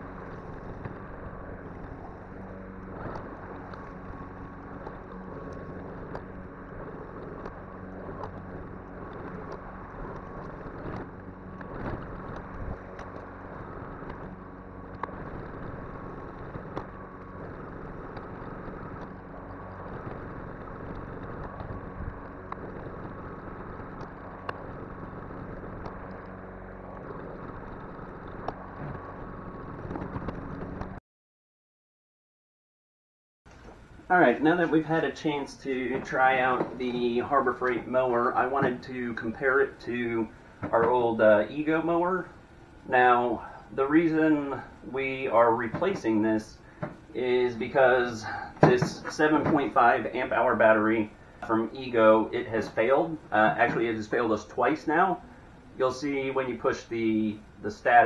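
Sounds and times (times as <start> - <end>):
lawn mower running: 0.0 - 31.0, 33.5 - 58.0.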